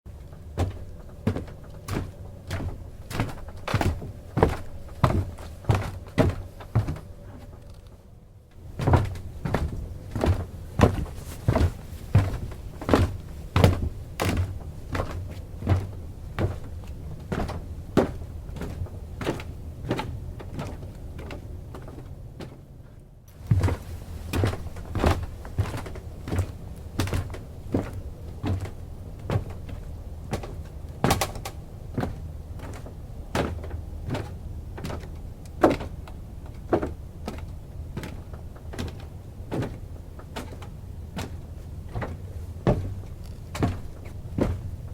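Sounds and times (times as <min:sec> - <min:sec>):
footsteps on wooden dock: 0:00.1 - 0:07.8, 0:08.6 - 0:22.7, 0:23.3 - 0:44.9.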